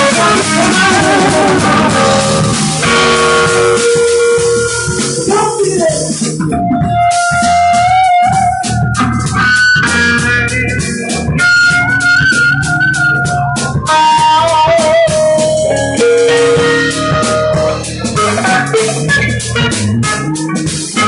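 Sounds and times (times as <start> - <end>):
drum kit: 0.0 - 21.0
electric guitar blues-rock lead: 0.0 - 21.0.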